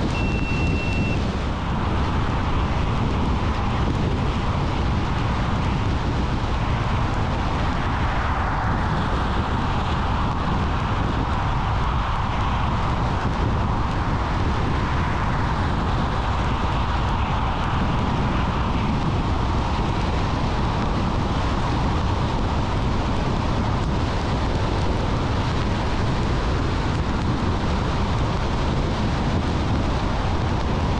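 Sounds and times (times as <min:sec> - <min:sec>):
low engine rumble: 0:00.0 - 0:30.9
road and tyre noise: 0:00.0 - 0:30.9.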